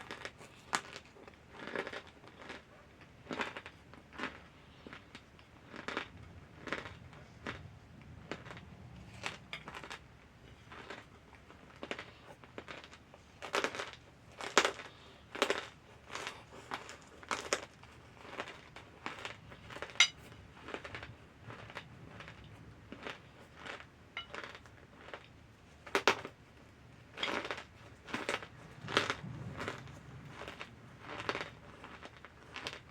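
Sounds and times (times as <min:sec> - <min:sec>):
crunchy chewing: 0:00.0 - 0:32.9.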